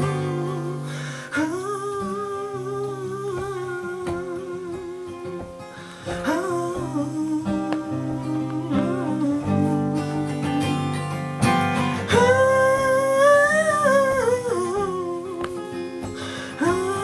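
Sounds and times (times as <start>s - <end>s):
acoustic guitar picked and strummed: 0.0s - 17.0s
wordless vocal line: 0.0s - 17.0s.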